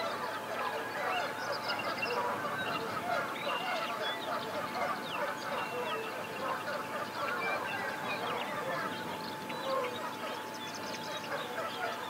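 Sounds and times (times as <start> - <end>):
chorus of birds calling: 0.0 - 12.0.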